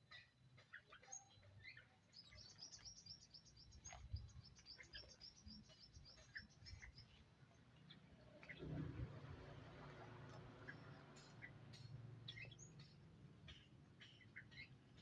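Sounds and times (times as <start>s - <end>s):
faint bird chirping: 0.0s - 9.5s, 10.4s - 15.0s.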